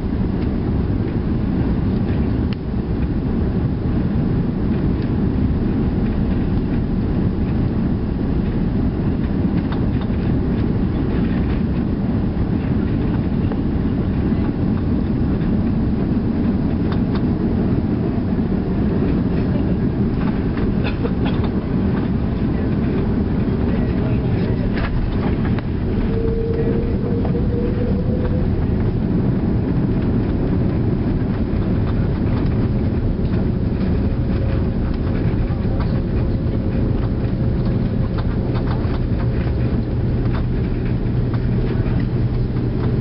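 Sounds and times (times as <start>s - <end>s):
airliner engines rumbling: 0.0s - 43.0s.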